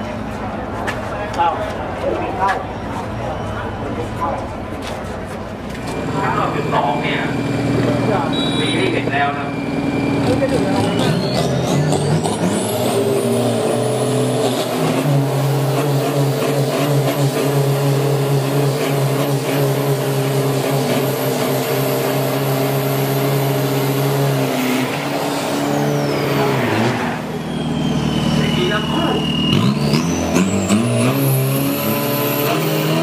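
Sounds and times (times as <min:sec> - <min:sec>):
diesel engine revving high: 0:01.4 - 0:33.0.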